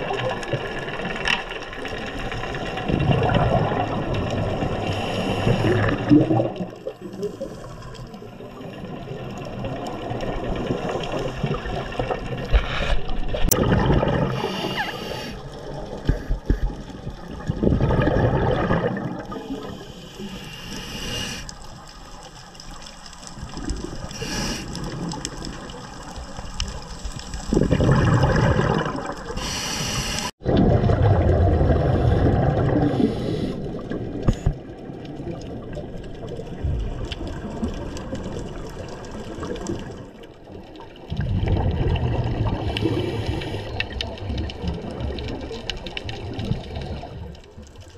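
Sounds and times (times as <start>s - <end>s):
gurgling exhaled bubbles: 0.0s - 47.9s.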